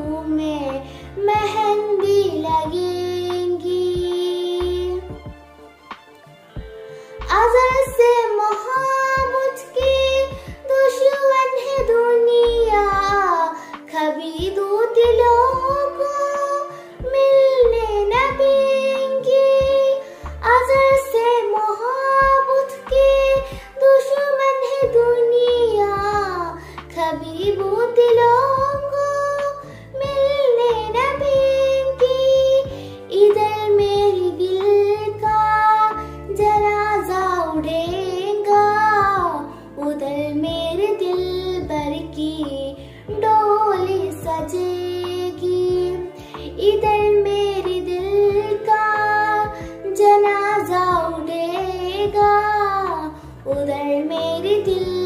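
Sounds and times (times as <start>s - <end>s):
girl singing: 0.0s - 5.4s, 7.1s - 55.0s.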